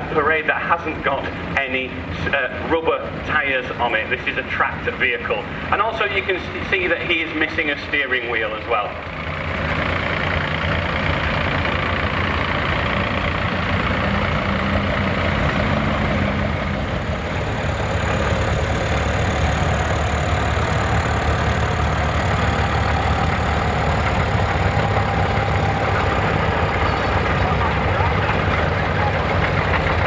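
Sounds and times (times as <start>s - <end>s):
tractor engines running at low revs: 0.0s - 30.0s.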